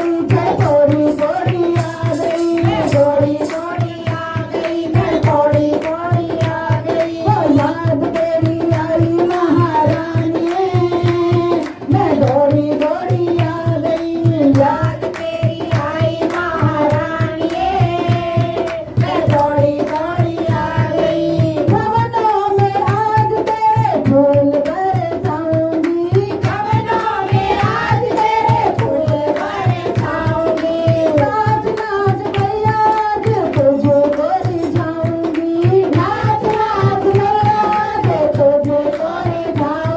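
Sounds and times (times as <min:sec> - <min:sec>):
hand drum beat: 0:00.0 - 0:39.9.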